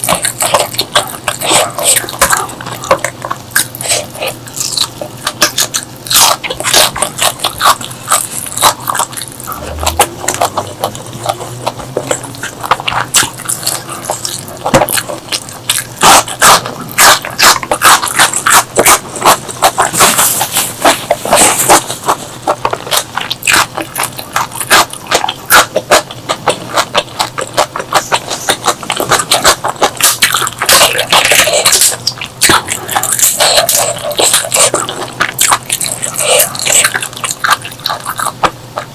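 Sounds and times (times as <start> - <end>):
chewing and mouth smacking: 0.0 - 38.9.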